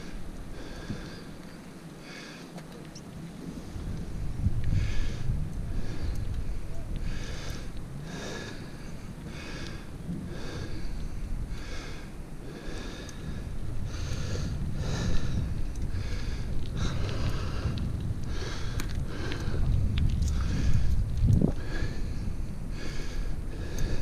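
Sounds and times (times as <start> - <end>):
person breathing hard: 0.0 - 2.6, 4.7 - 24.0
wind and tyres rumbling: 0.0 - 24.0.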